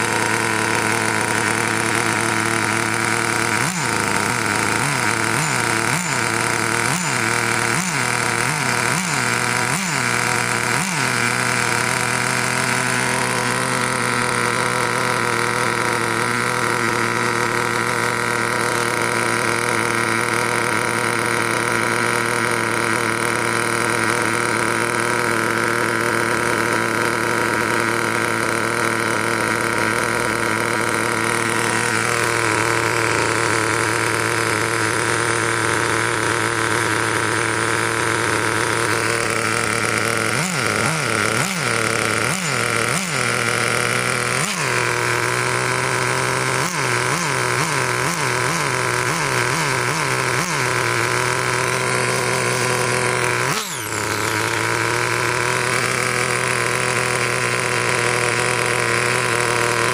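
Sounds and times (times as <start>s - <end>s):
engine throttle blips: 0.0s - 59.9s
nitro engine idling: 0.0s - 59.9s.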